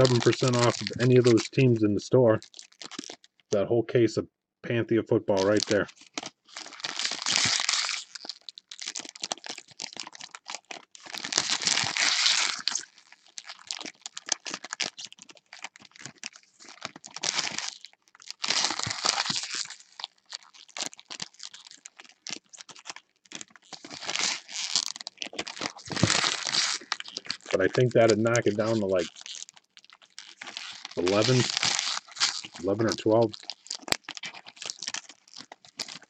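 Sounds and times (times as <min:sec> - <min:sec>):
foil wrappers tearing and crinkling: 0:00.0 - 0:01.8, 0:02.4 - 0:03.4, 0:05.3 - 0:36.0.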